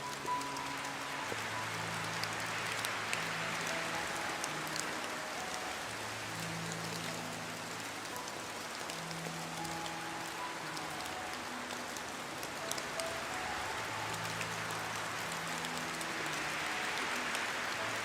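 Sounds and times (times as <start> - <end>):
raindrops ticking: 0.0 - 18.0
soft sustained music notes: 0.0 - 18.0
steady rain falling: 0.0 - 18.0.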